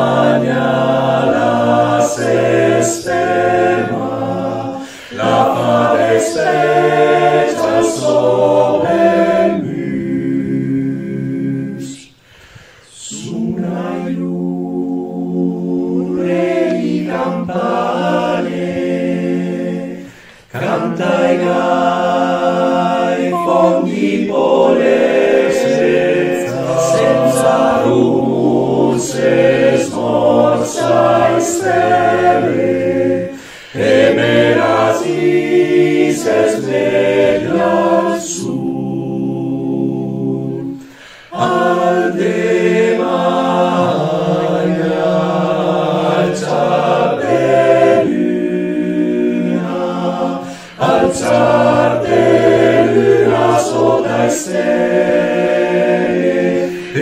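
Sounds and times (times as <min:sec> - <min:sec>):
male choir singing a cappella: 0:00.0 - 0:57.0.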